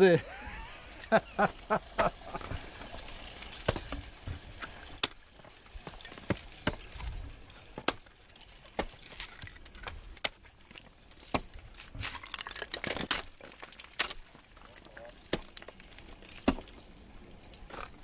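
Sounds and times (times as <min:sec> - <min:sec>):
ice axes striking ice: 0:00.8 - 0:18.0.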